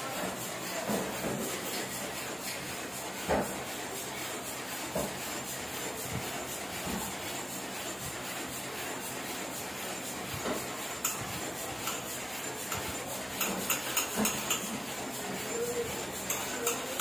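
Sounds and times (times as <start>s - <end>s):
printing press running: 0.0s - 17.0s.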